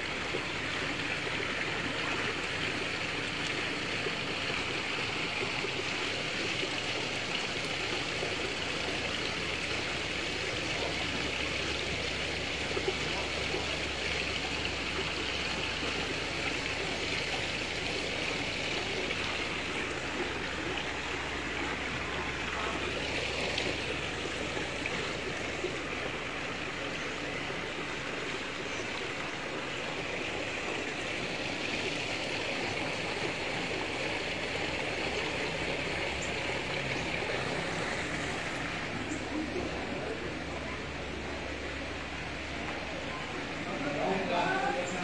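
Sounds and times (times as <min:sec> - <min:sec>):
waterfall splashing into pond: 0:00.0 - 0:45.0.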